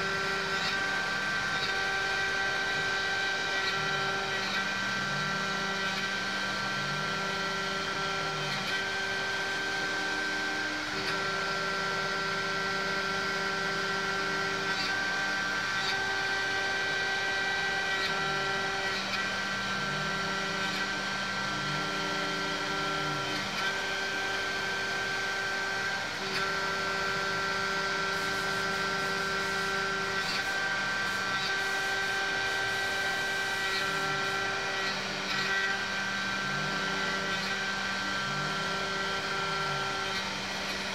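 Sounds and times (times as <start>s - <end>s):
milling machine spindle whine: 0.0s - 40.9s.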